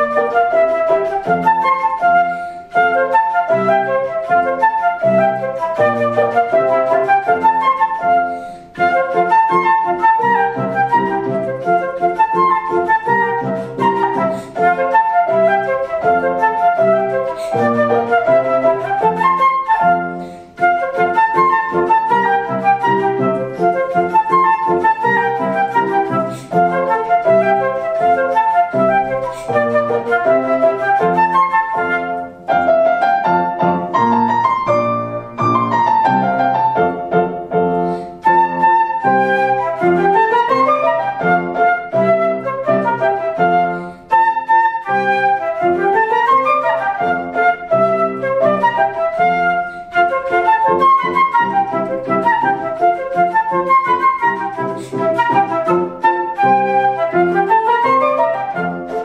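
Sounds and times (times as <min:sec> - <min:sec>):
flute melody: 0:00.0 - 0:59.0
piano accompaniment: 0:00.0 - 0:59.0.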